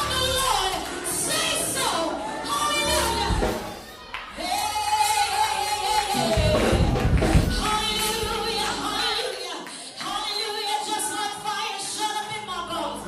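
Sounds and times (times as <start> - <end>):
gospel worship singing: 0.0 - 13.0
musical backing: 0.0 - 13.0.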